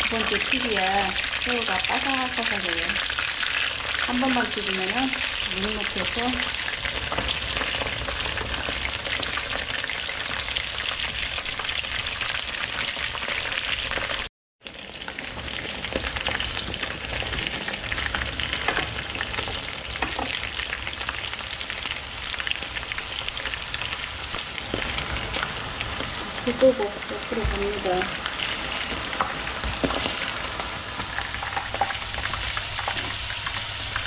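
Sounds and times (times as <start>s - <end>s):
battered shrimp deep-frying in oil: 0.0s - 34.0s.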